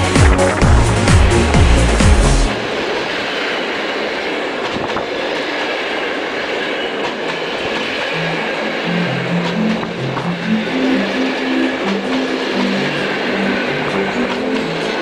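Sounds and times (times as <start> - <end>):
rail clicks: 0.0 - 15.0
train wheels rushing on rails: 0.0 - 15.0.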